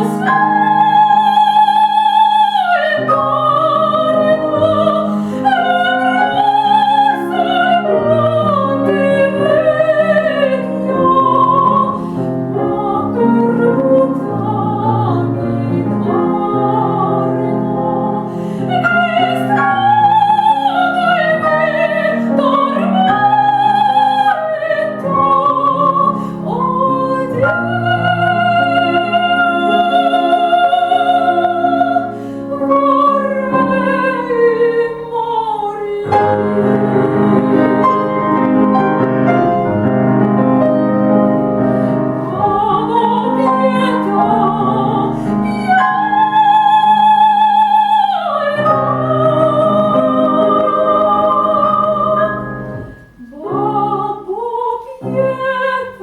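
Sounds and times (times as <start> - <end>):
soprano singing opera: 0.0 - 39.1, 41.9 - 56.0
grand piano accompaniment: 0.0 - 56.0.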